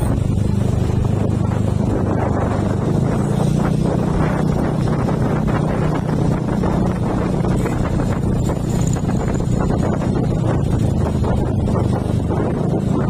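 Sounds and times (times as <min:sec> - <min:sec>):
vehicle engine running: 0:00.0 - 0:13.0
wind on microphone: 0:00.0 - 0:13.0.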